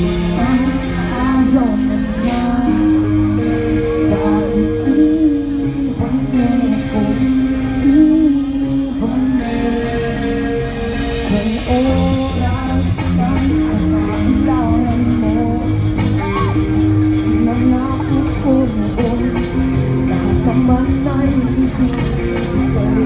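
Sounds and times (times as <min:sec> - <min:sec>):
live rock band playing: 0:00.0 - 0:23.0
singer holding long notes: 0:00.0 - 0:23.0.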